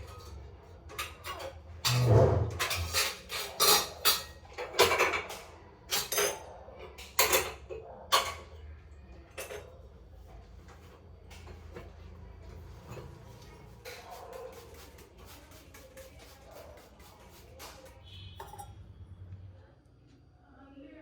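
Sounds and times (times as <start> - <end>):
dishes and utensils clinking: 0.0 - 9.9, 10.7 - 19.0.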